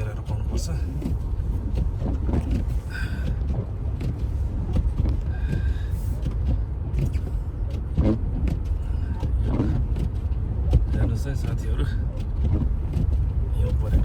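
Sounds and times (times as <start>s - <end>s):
car driving over snow: 0.0s - 14.0s.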